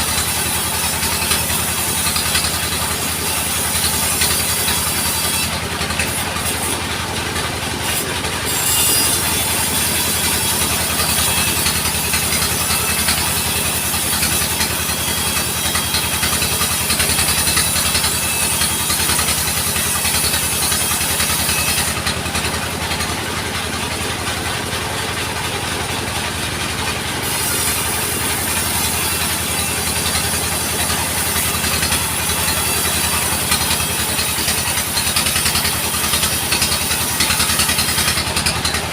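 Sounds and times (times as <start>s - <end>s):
saw cutting timber: 0.0s - 38.9s
sawmill engine hum: 0.0s - 38.9s.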